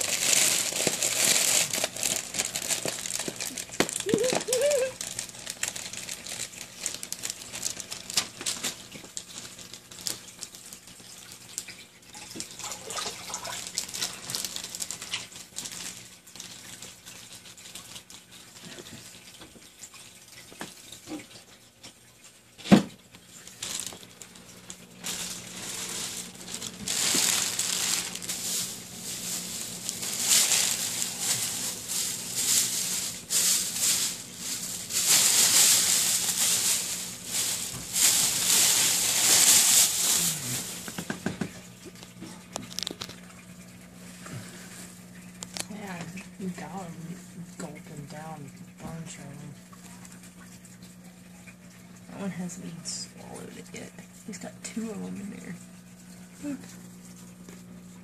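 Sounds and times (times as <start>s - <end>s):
crackles: 0.0s - 21.3s, 23.1s - 52.0s
aquarium water splashing: 0.0s - 58.0s
faint steady hum: 0.0s - 58.0s.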